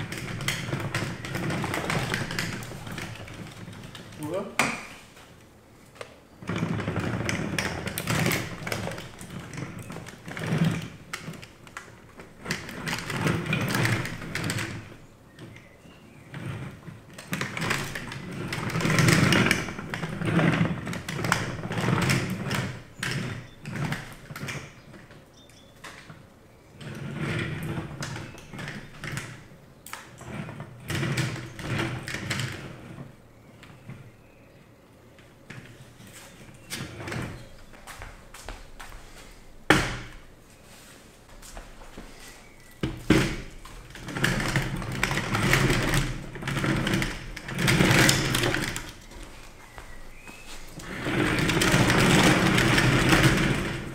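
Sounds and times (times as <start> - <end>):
plastic wheels rumbling on wooden floor: 0.0 - 53.9.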